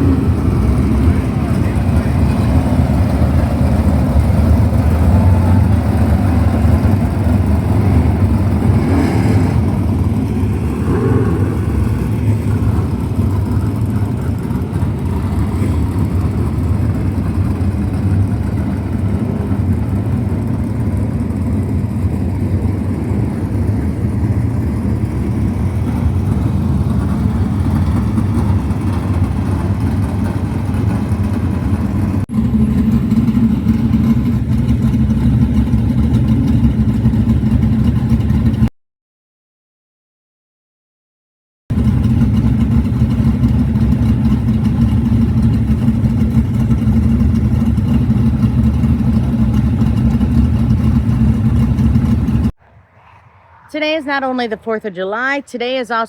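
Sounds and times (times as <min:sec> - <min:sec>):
race car engines droning: 0:00.0 - 0:38.7, 0:41.7 - 0:56.0.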